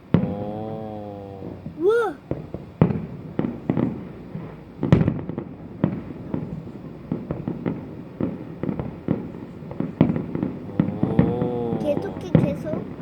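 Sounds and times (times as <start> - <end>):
distant fireworks bangs: 1.4 - 13.0.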